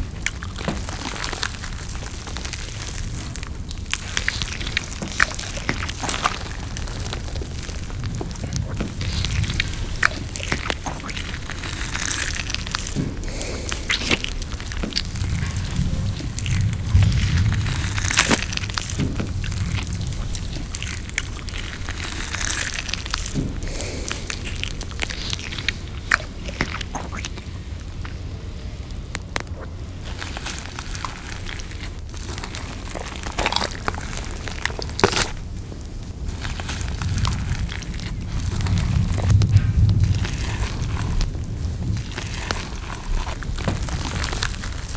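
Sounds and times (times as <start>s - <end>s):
crunchy mouth clicks: 0.0s - 28.3s, 29.2s - 44.9s
chewing and biting: 0.0s - 44.9s
low rumble: 0.0s - 44.9s.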